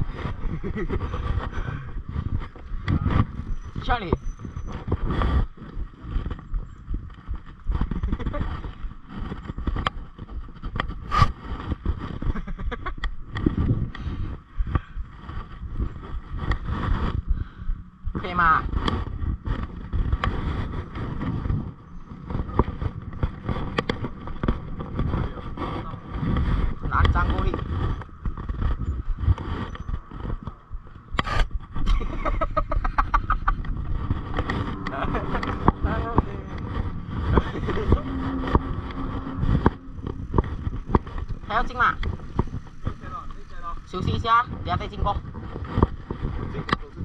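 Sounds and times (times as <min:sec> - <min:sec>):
bike rattling and knocking: 0:00.0 - 0:47.0
bike tyres rumbling on dirt trail: 0:00.0 - 0:47.0
wind on microphone: 0:00.0 - 0:47.0.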